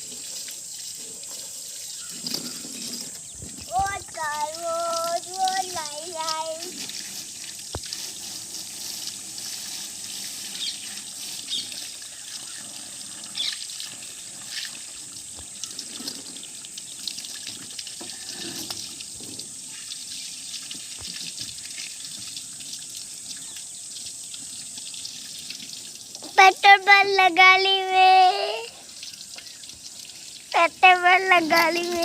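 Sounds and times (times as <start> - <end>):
water splashes: 0.0 - 23.7, 24.3 - 32.0
water running: 0.0 - 32.0.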